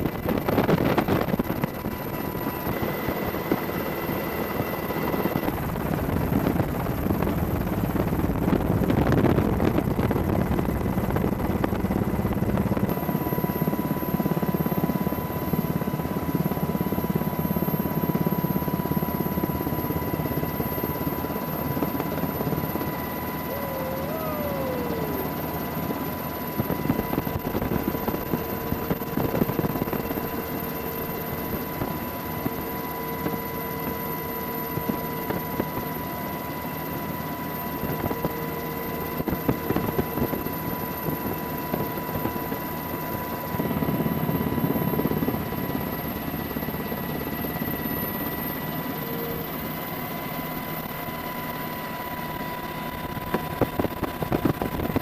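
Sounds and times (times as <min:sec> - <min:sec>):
helicopter rotor and turbine drone: 0:00.0 - 0:55.0.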